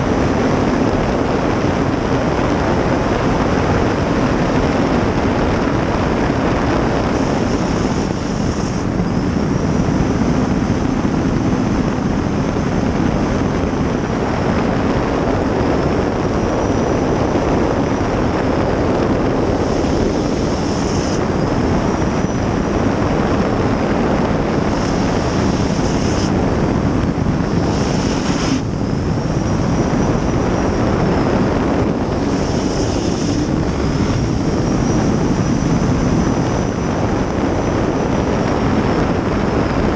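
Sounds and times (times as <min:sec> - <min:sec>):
gas turbine roaring and whining: 0:00.0 - 0:39.9.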